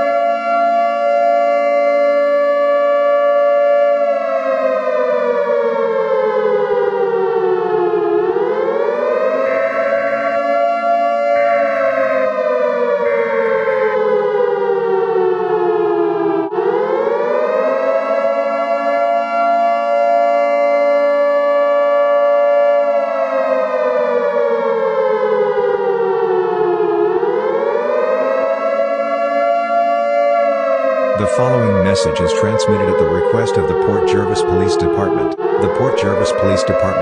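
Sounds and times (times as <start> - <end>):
siren wailing: 0.0 - 37.0.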